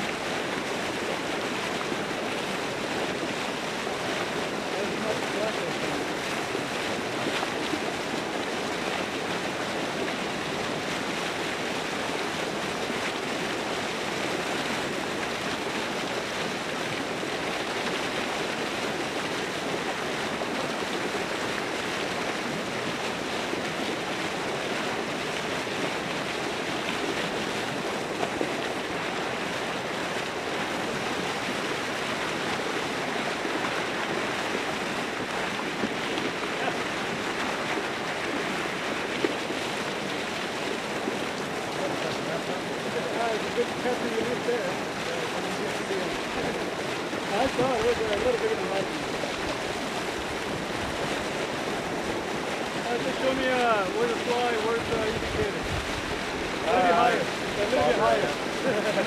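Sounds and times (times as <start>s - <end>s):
water splashing and churning: 0.0s - 59.0s.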